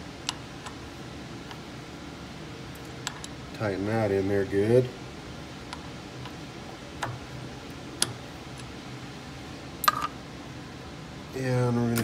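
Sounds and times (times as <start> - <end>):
air conditioner fan: 0.0 - 12.0.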